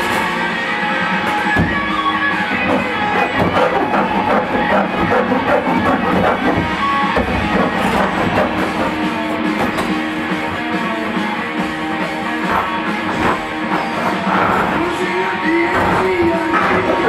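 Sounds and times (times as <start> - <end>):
rock music with guitar and drums: 0.0 - 17.0.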